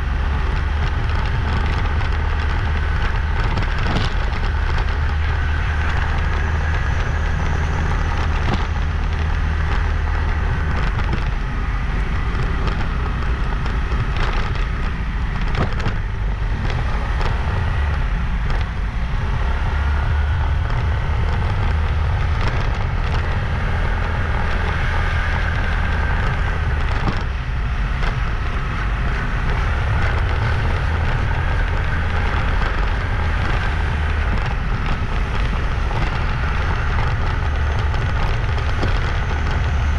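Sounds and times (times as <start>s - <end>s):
crackly hiss: 0.0s - 39.9s
knocks from road bumps: 0.0s - 39.9s
motorbike engine rumble: 0.0s - 39.9s
wind on microphone: 0.0s - 39.9s.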